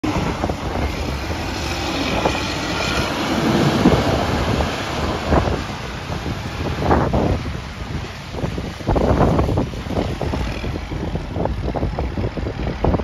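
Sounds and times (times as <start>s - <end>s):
diesel engine under load: 0.0s - 13.0s
plow blade scraping and knocking: 0.0s - 13.0s.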